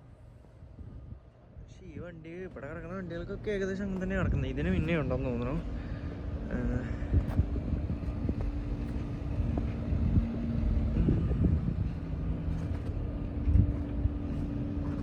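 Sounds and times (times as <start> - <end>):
diesel truck engine idling: 1.8 - 15.0.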